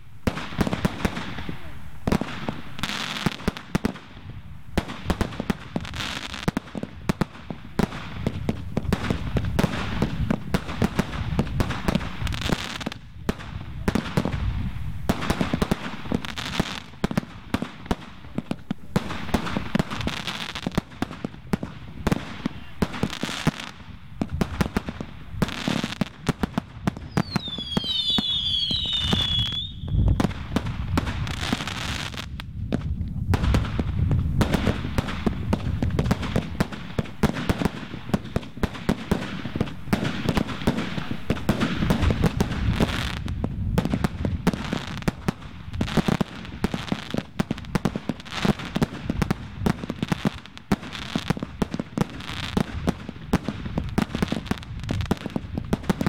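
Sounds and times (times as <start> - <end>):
fireworks bangs and pops: 0.0 - 56.0
fireworks whistling: 0.0 - 56.0.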